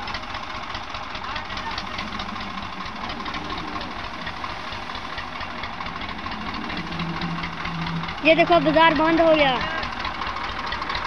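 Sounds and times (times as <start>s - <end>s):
diesel tractor engine throbbing: 0.0s - 11.0s.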